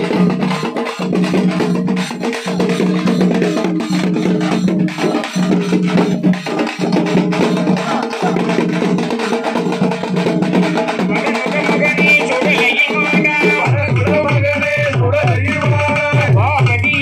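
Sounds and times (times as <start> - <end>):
drumming: 0.0 - 17.0.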